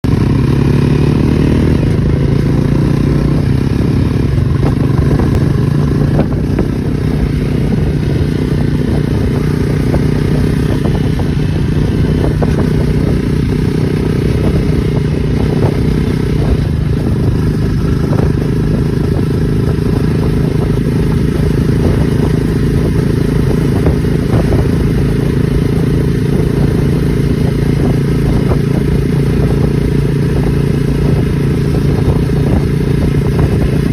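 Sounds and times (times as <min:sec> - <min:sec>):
motorcycle engine running steadily: 0:00.0 - 0:33.9.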